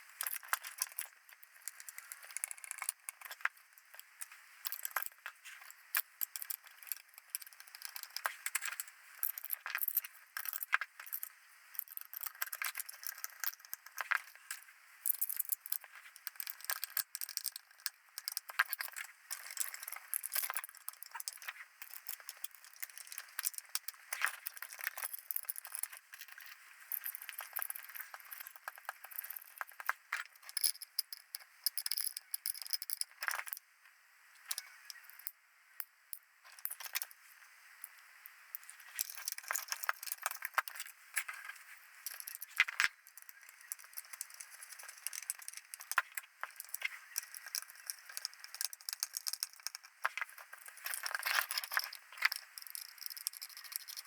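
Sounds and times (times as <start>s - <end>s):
small parts clicking and rattling: 0.0s - 33.7s, 34.4s - 54.0s.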